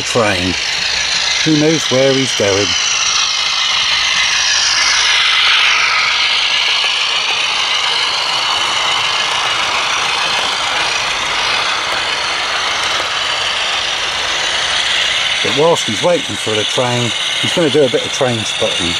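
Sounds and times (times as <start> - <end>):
high whine: 0.0 - 18.9
model train running past: 0.0 - 18.9.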